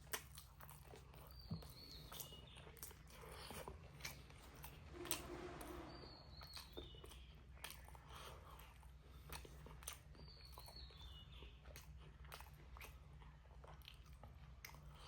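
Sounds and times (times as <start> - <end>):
chewing and mouth clicks: 0.0 - 4.6, 7.0 - 15.0.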